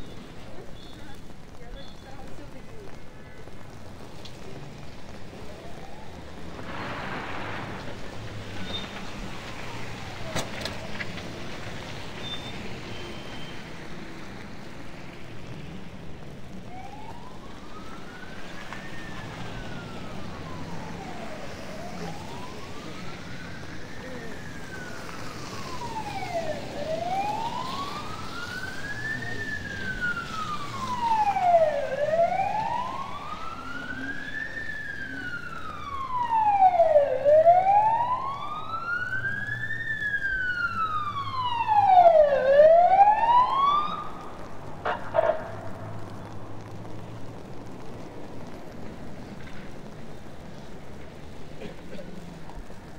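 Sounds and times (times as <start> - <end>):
emergency vehicle siren wailing: 0.0 - 52.9
street traffic noise: 0.0 - 52.9.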